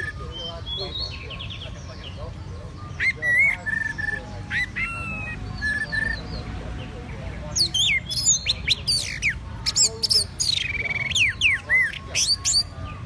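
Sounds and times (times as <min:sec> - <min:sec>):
thrush singing whistled notes: 0:00.0 - 0:13.0.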